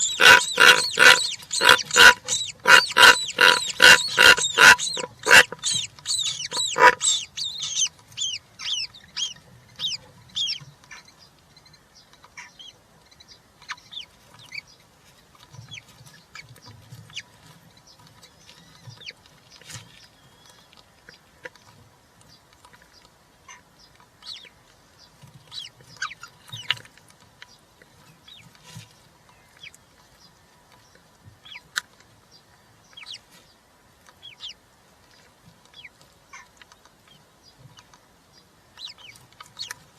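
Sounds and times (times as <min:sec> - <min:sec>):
bird chicks calling: 0:00.0 - 0:39.9.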